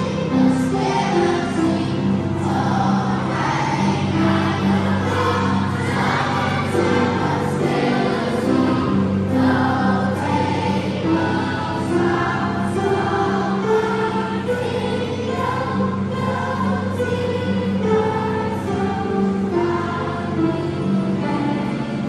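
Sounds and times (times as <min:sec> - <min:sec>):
children's choir singing: 0:00.0 - 0:22.0
piano accompaniment: 0:00.0 - 0:22.0.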